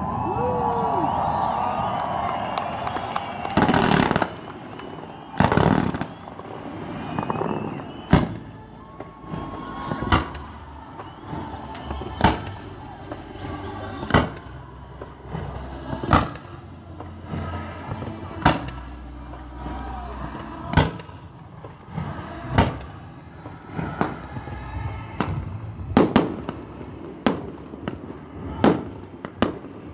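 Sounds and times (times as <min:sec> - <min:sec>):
loud rush of noise: 0:00.0 - 0:29.9.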